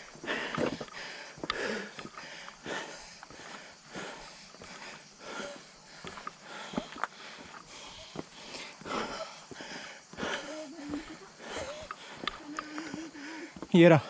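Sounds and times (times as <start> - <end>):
person breathing hard: 0.0 - 13.7.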